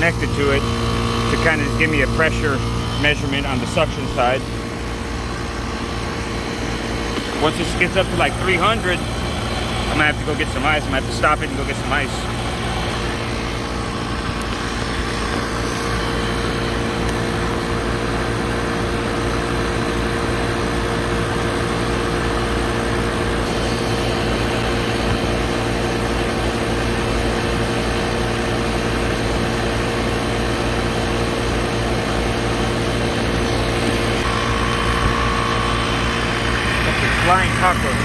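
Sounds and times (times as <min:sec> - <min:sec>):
compressor machine humming: 0:00.0 - 0:38.0.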